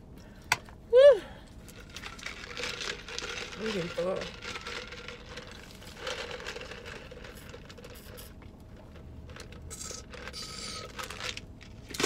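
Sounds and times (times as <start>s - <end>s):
faint car interior hum: 0.0s - 12.0s
slurping through a straw: 1.7s - 12.0s.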